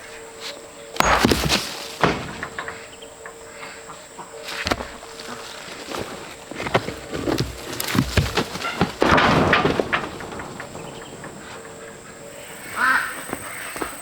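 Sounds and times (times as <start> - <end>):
stones knocking together: 1.0 - 3.4, 4.4 - 14.0.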